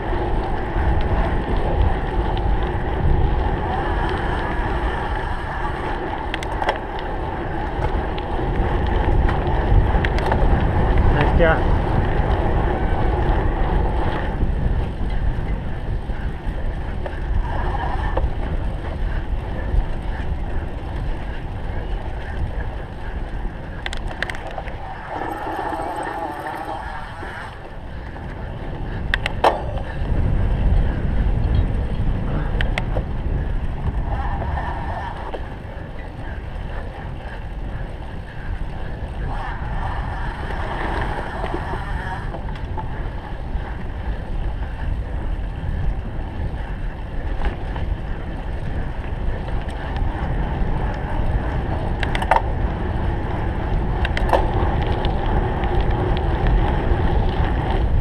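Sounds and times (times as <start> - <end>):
bike tyre and frame rattle: 0.0 - 58.0
wind rumbling on microphone: 0.0 - 58.0.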